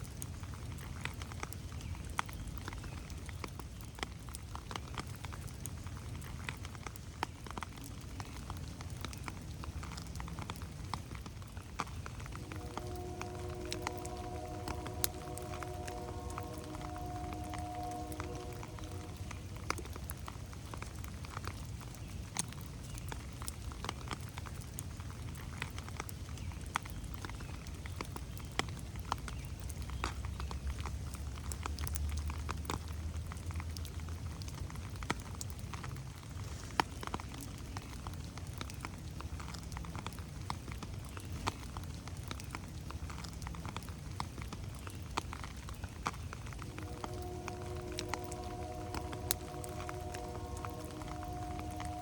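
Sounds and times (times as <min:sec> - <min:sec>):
low rain rumble: 0:00.0 - 0:52.0
raindrops pattering on leaves: 0:00.0 - 0:52.0.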